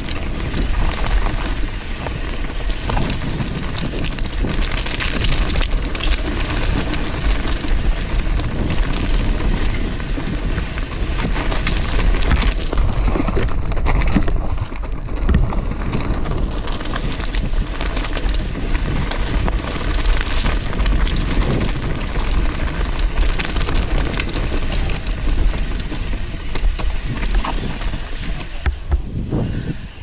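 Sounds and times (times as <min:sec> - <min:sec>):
tyres crunching over dirt and stones: 0:00.0 - 0:29.6
bike rattling over bumps: 0:00.0 - 0:30.0
wind buffeting microphone: 0:00.0 - 0:30.0.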